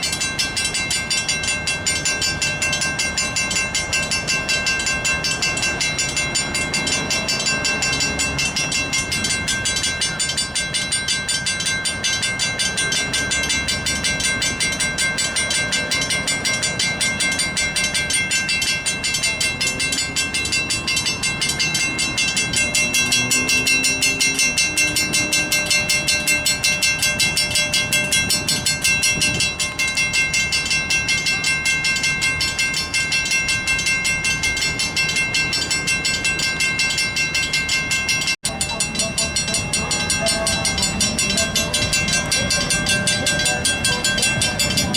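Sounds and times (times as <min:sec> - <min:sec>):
electric train rumbling past: 0:00.0 - 0:44.9
mechanical crossing bells ringing: 0:00.0 - 0:44.9.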